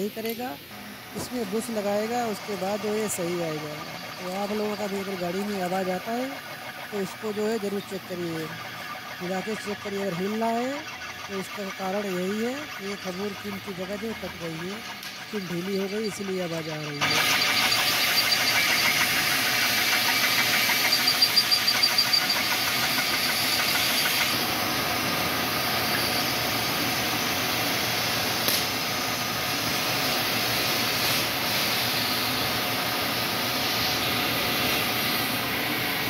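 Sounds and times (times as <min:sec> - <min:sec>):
drill press boring metal: 0:00.0 - 0:36.0.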